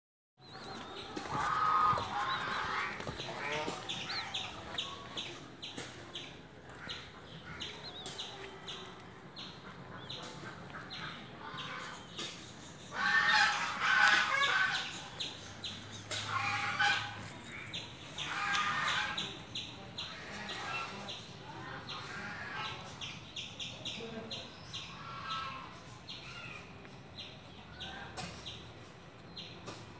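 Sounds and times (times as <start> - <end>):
birds clucking and calling: 0.4 - 29.9.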